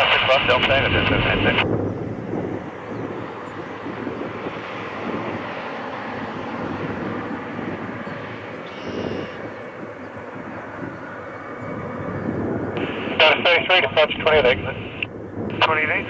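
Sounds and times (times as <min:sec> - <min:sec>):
jet engines at takeoff thrust: 0:00.0 - 0:16.0.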